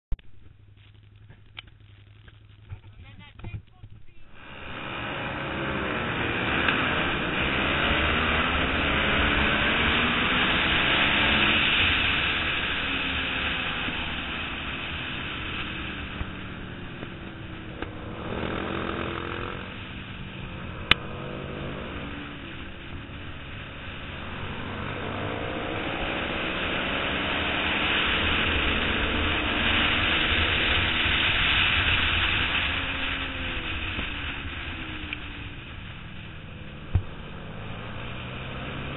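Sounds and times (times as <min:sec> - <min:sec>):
motorcycle engine revving: 0:01.0 - 0:38.9.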